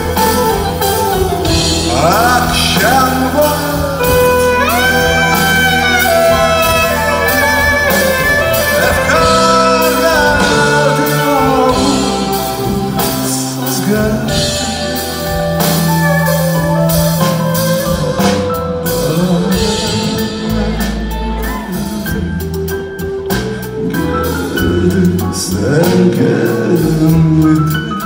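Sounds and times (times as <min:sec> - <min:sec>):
live band playing: 0:00.0 - 0:28.0.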